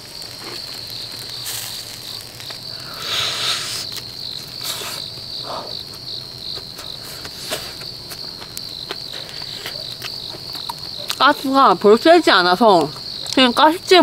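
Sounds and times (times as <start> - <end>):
crunchy chewing: 0.0 - 13.8
crickets chirping: 0.0 - 14.0.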